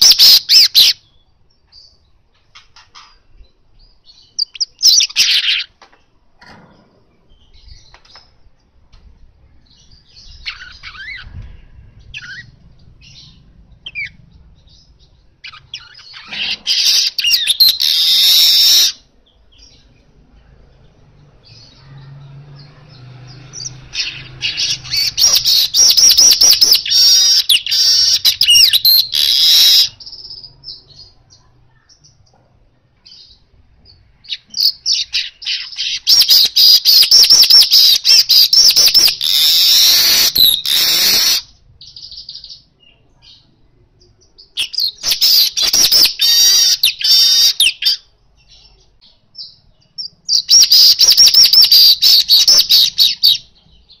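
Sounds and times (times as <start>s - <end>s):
weaver bird chattering song: 0.0s - 5.8s, 9.7s - 32.3s, 34.2s - 54.0s.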